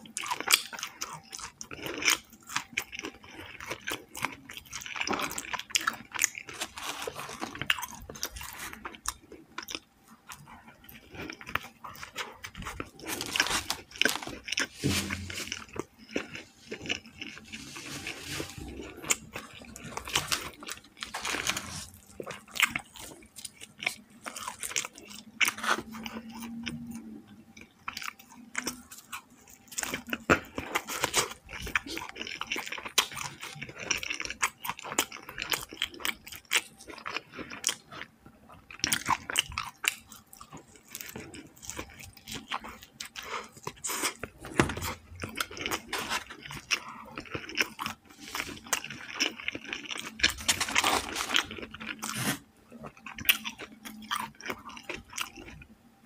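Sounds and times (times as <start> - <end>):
crunchy chewing: 0.0 - 55.8.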